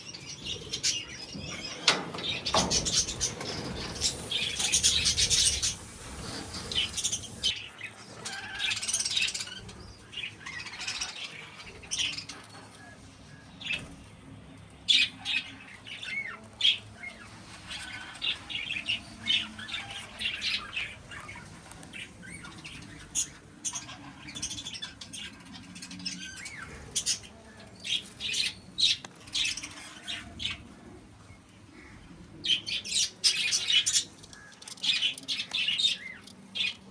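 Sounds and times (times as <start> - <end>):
birds chirping and squawking: 0.0 - 14.1, 14.9 - 36.9.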